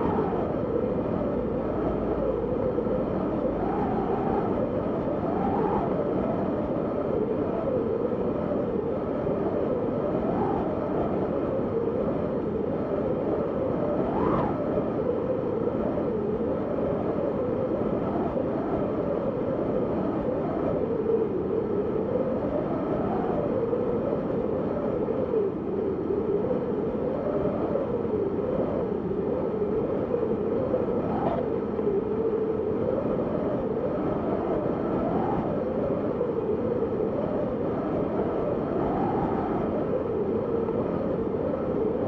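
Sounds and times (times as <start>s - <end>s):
wind howling: 0.0s - 42.0s.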